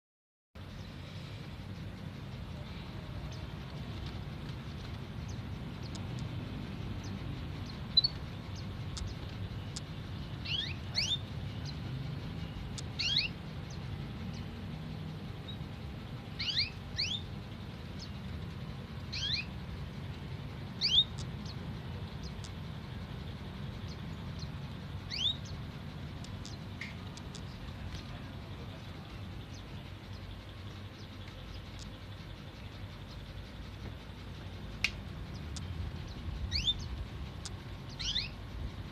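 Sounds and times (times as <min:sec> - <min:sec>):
steady low hum: 0:00.6 - 0:38.9
canary chirping: 0:01.9 - 0:38.9.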